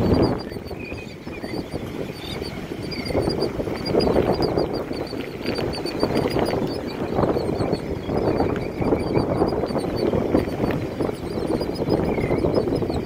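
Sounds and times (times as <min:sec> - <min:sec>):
surf rumble: 0:00.0 - 0:13.0
terns chattering calls: 0:00.0 - 0:13.0
wind: 0:00.0 - 0:13.0.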